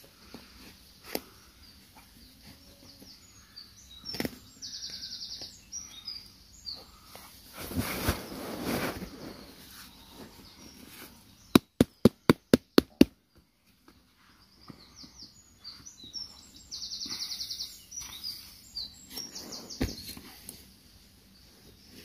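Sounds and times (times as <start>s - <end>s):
birds chirping and trilling: 0.0s - 22.0s.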